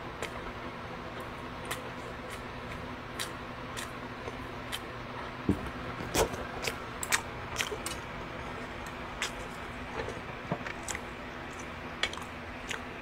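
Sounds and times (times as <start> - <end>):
person chewing: 1.2 - 5.0, 6.0 - 13.0.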